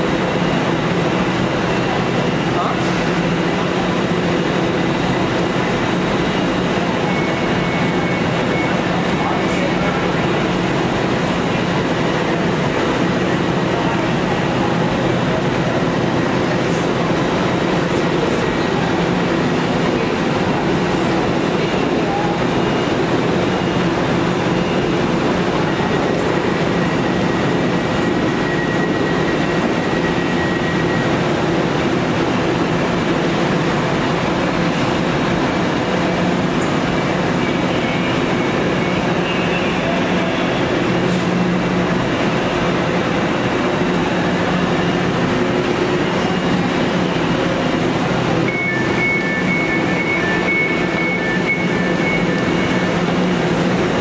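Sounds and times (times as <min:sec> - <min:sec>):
train rushing with low hum: 0:00.0 - 0:54.0.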